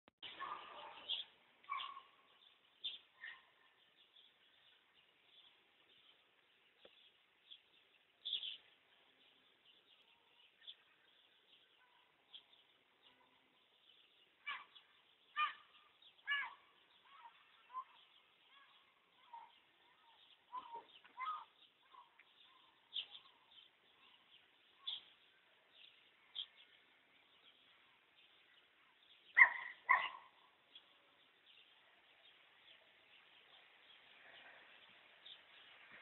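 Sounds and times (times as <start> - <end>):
birds calling and chirping: 0.2 - 36.0.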